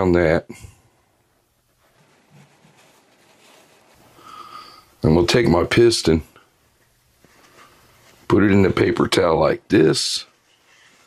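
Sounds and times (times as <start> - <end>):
faint handling noises: 0.9 - 11.0.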